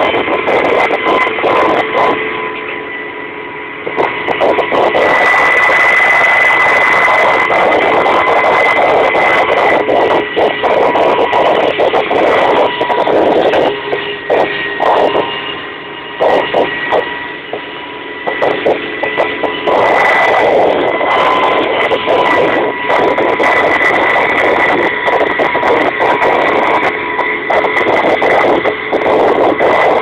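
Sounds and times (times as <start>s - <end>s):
helicopter cabin engine din: 0.0s - 30.0s.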